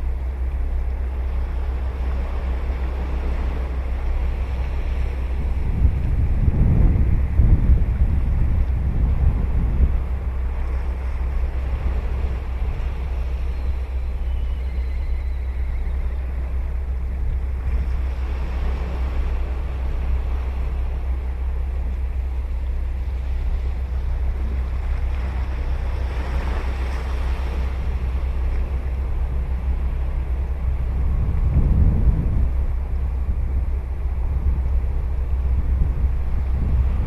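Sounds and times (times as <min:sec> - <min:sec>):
ocean waves breaking on beach: 0:00.0 - 0:14.0, 0:14.8 - 0:37.0
wind rumble on microphone: 0:00.0 - 0:37.0.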